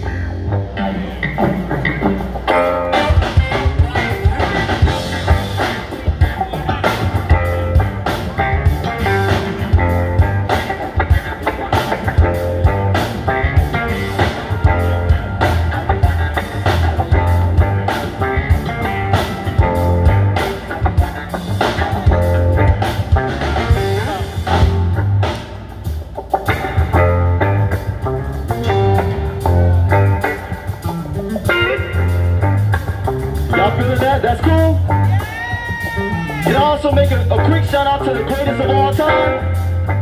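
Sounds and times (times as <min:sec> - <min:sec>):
bass guitar: 0:00.0 - 0:40.0
drum kit: 0:00.0 - 0:40.0
electric guitar: 0:00.0 - 0:40.0
keyboards: 0:00.0 - 0:40.0.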